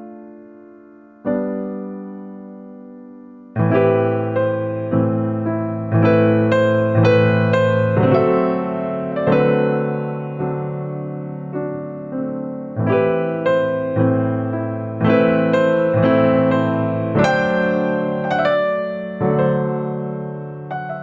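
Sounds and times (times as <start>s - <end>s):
electric piano slow chords: 0.0s - 21.0s.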